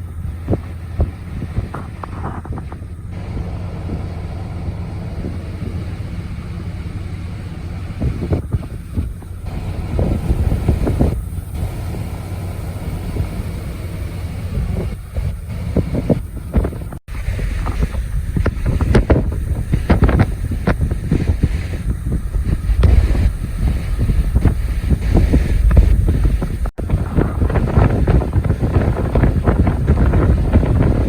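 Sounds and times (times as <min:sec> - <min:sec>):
blizzard wind buffeting microphone: 0:00.0 - 0:31.0.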